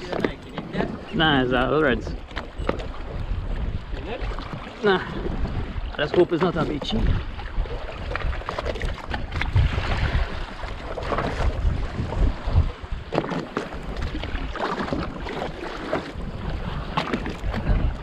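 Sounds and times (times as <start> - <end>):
water splashing against boat: 0.0 - 18.0
wind buffeting microphone: 0.0 - 18.0.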